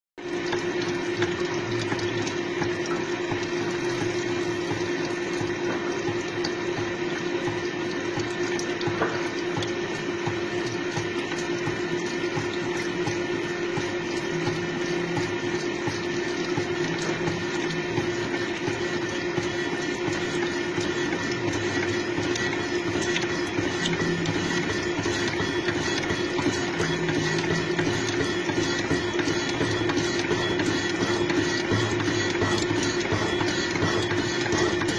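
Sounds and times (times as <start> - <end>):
coolant pouring and splashing: 0.2 - 34.9
gear-cutting machine humming: 0.2 - 34.9.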